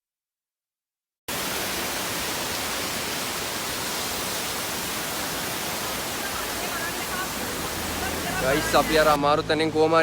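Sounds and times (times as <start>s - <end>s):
waterfall and stream rushing: 1.3s - 10.0s.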